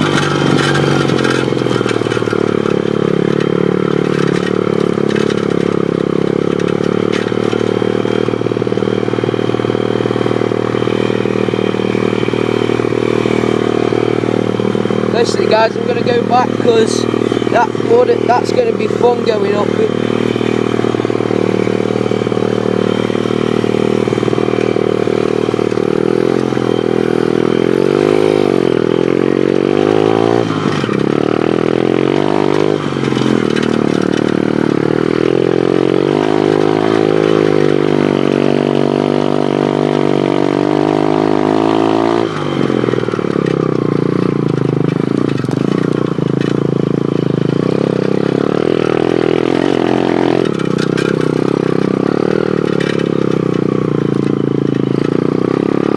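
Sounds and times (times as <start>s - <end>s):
pit bike engine revving: 0.0s - 55.9s.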